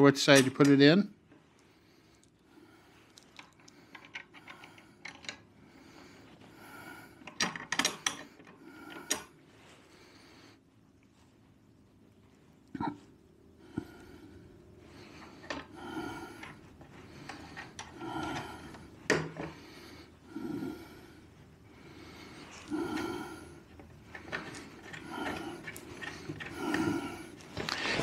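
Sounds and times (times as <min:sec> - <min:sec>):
man breathing slowly: 0:01.4 - 0:10.8, 0:13.5 - 0:28.0.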